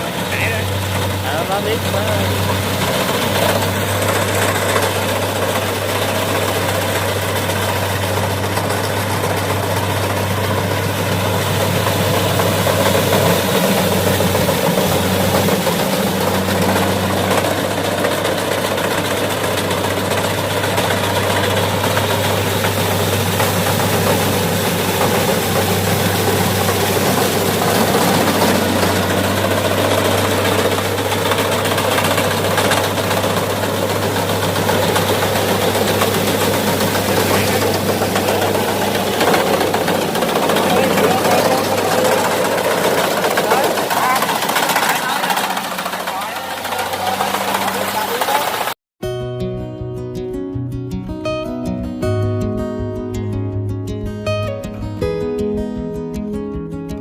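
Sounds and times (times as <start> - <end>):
diesel engine idling: 0.0 - 48.8.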